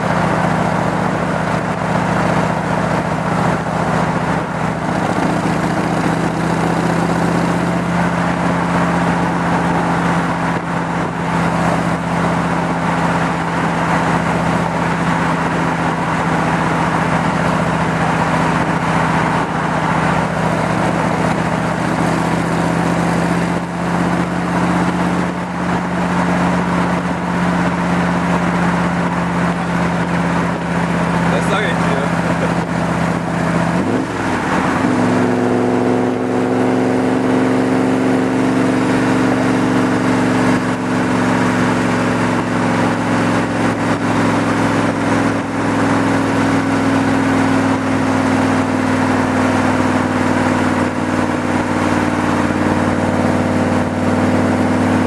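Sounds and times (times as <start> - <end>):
car engine cruising: 0.0 - 55.0
road noise: 0.0 - 55.0.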